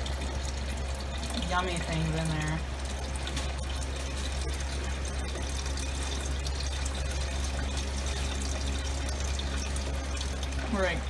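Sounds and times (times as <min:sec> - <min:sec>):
liquid pouring through strainer: 0:00.0 - 0:11.0.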